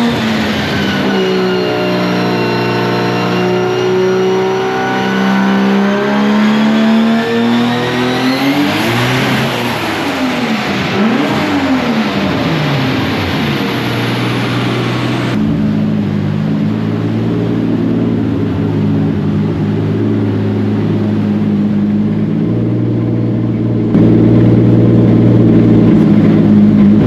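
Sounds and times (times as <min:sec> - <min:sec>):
race car engine running: 0:00.0 - 0:27.0.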